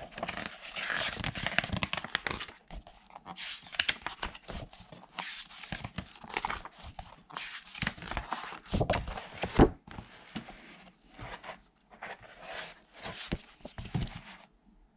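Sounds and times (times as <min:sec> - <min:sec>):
book pages turning: 0:00.0 - 0:14.5.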